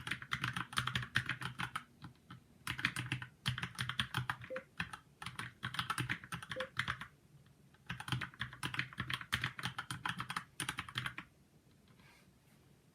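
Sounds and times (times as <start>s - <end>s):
mechanical keyboard typing: 0.0s - 7.1s, 7.8s - 11.3s.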